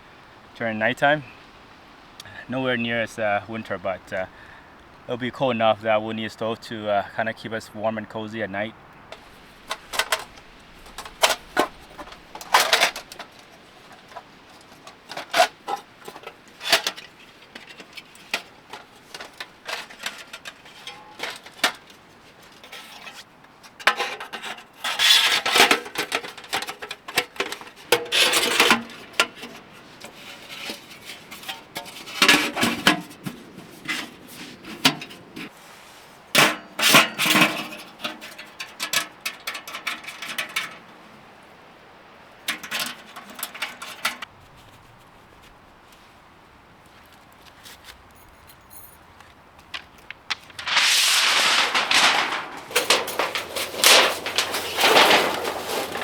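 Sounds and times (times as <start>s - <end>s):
rustling and scraping: 9.0s - 40.9s, 42.4s - 56.0s.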